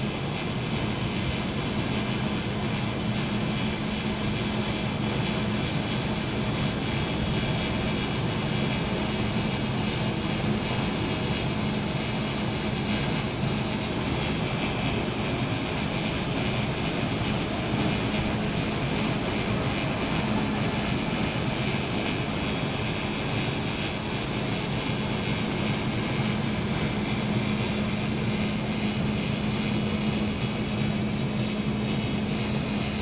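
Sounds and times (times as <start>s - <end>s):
low hum: 0.0s - 33.0s
steady rushing background: 0.0s - 33.0s.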